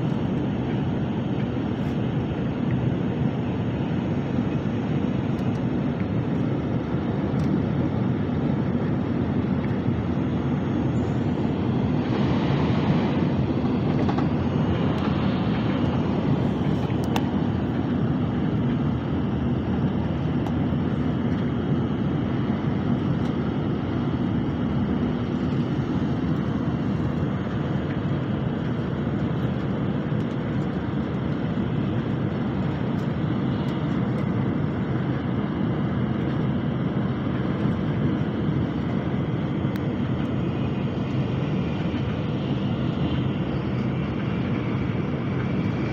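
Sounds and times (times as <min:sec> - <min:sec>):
high-speed train cabin rumble: 0:00.0 - 0:45.9.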